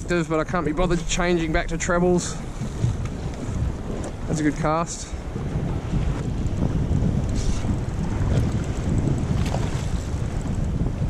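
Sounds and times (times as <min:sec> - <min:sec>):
choppy sea water: 0:00.0 - 0:11.0
wind buffeting microphone: 0:00.0 - 0:11.0.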